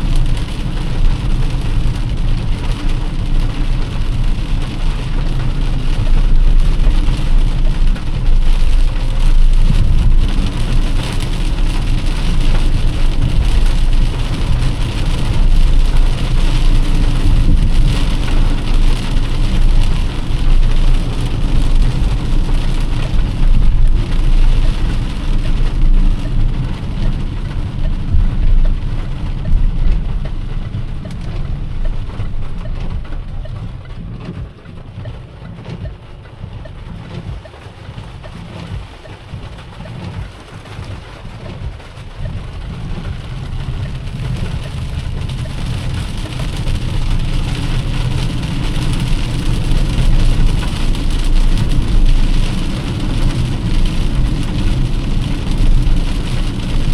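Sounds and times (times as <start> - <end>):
car and road rumble: 0.0 - 56.9
heavy rain on a car: 0.0 - 56.9.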